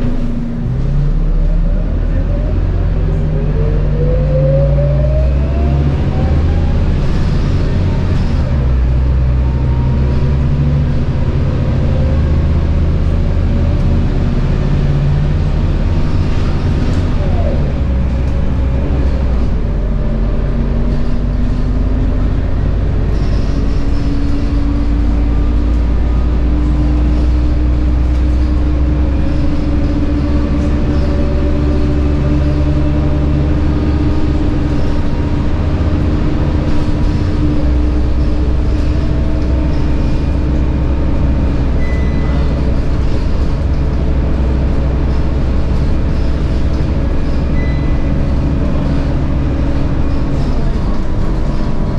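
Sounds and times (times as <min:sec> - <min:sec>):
bus diesel engine rumble: 0:00.0 - 0:51.9.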